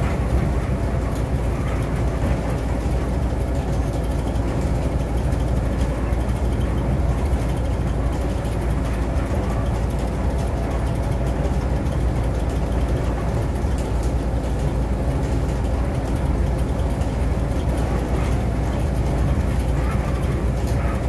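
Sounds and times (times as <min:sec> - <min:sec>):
bus engine drone: 0:00.0 - 0:21.0
road and tyre noise: 0:00.0 - 0:21.0.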